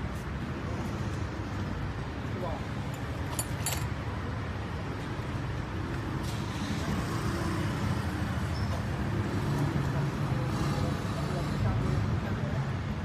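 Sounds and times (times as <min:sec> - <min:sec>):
low rumble of road traffic: 0:00.0 - 0:13.0
vehicle engines running close by: 0:00.0 - 0:13.0.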